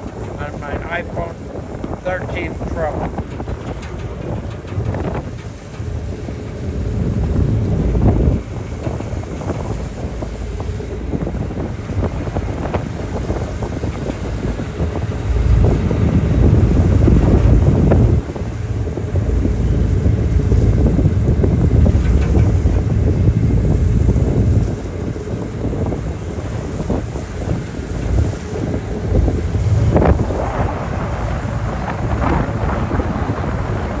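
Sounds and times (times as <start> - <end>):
rushing water: 0.0 - 34.0
wind buffeting microphone: 0.0 - 34.0.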